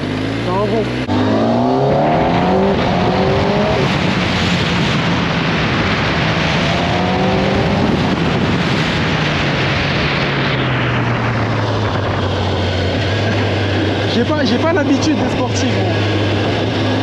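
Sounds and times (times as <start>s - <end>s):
motorcycle engine revving: 0.0s - 17.0s
wind rush: 0.0s - 17.0s.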